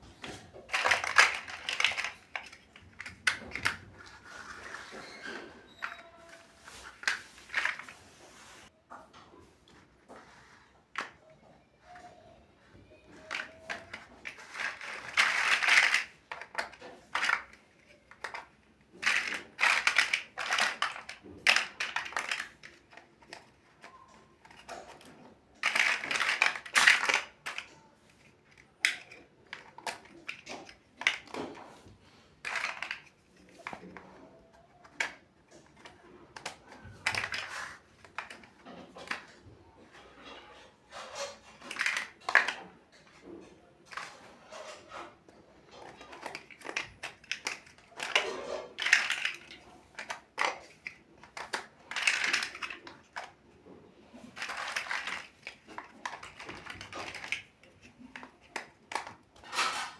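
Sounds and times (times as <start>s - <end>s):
plastic bricks clattering: 0.0s - 8.6s, 10.2s - 59.9s.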